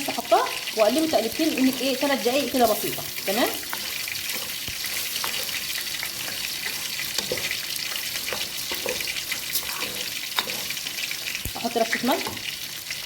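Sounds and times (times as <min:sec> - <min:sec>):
rice sizzling in hot oil: 0:00.0 - 0:13.0.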